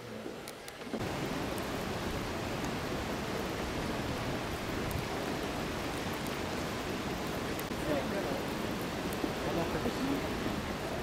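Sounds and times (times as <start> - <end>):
fountain jet splashing: 0.0 - 11.0
river water rushing: 0.0 - 11.0.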